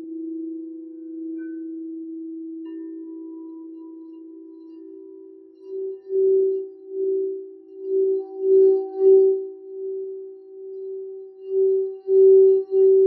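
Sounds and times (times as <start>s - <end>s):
crystal singing bowls ringing: 0.0s - 13.0s.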